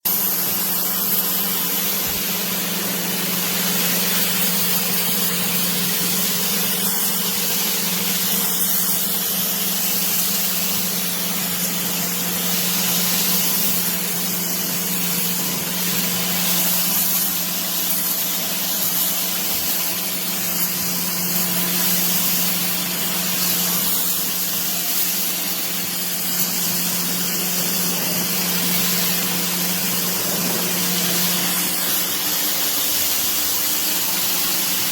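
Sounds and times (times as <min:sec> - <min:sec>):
pressure washer motor hum: 0:00.0 - 0:34.9
pressure washer water jet hiss: 0:00.0 - 0:34.9.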